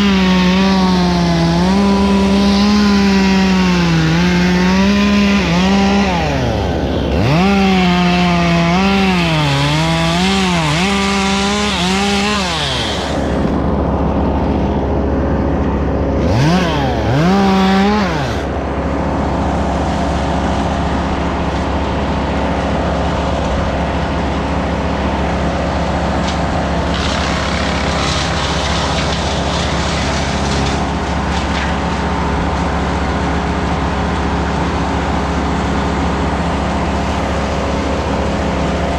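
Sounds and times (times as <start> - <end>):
chainsaw revving: 0.0 - 13.7, 16.2 - 38.9
engine humming: 0.0 - 38.9.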